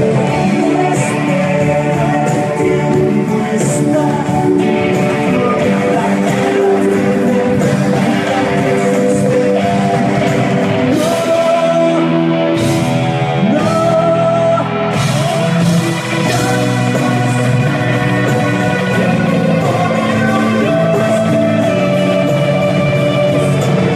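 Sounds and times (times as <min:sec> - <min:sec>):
electric guitars and bass: 0:00.0 - 0:23.9
person singing: 0:00.0 - 0:23.9.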